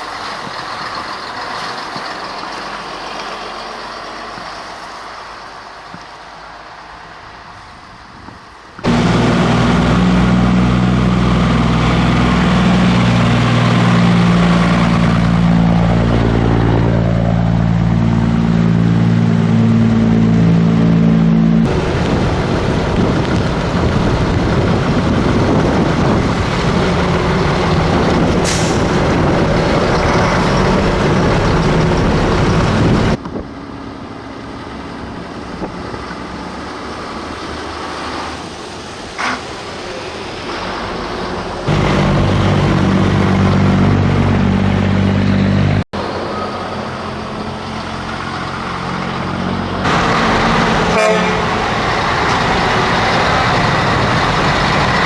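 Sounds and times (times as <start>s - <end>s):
road noise: 0.0s - 55.0s
truck diesel engine droning: 0.0s - 55.0s
vehicle rumble: 0.0s - 55.0s.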